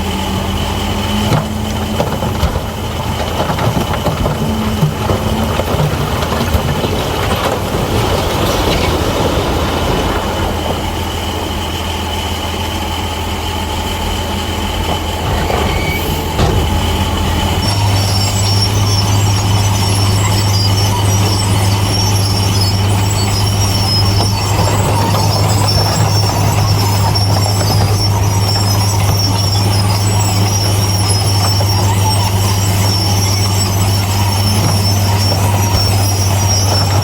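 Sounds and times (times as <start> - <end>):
bulldozer diesel engine: 0.0 - 37.0
crawler tracks squealing: 0.0 - 37.0.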